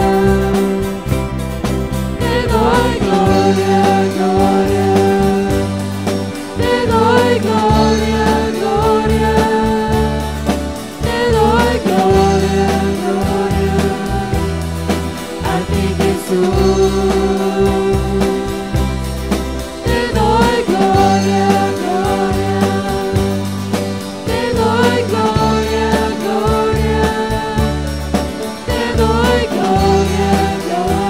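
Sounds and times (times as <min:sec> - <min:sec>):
bass line: 0:00.0 - 0:31.0
people singing with vibrato: 0:00.0 - 0:31.0
sustained instrumental backing: 0:00.0 - 0:31.0.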